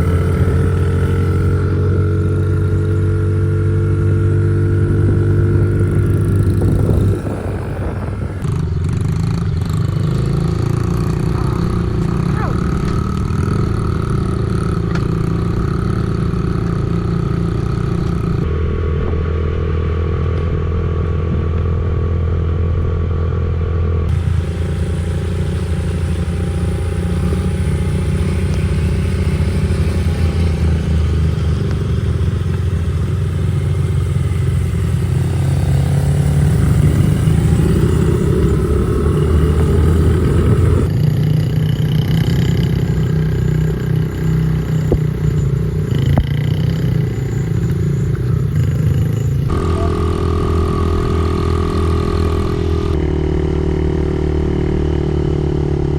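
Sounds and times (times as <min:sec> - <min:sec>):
dirt bike engines revving: 0:00.0 - 0:18.5, 0:24.1 - 0:55.9.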